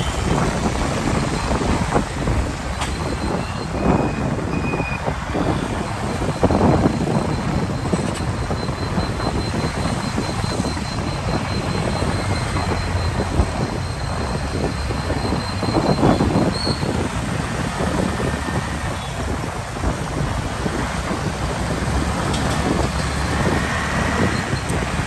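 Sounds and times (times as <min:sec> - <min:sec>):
motorcycle traffic rumble: 0:00.0 - 0:25.0
wind buffeting microphone: 0:00.0 - 0:25.0.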